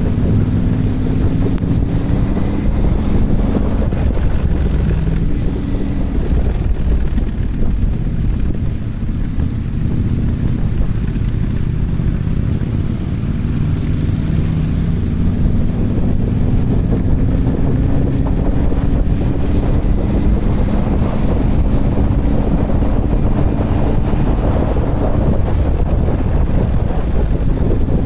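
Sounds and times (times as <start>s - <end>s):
motorcycle engine running: 0.0s - 28.0s
wind noise on microphone: 0.0s - 28.0s.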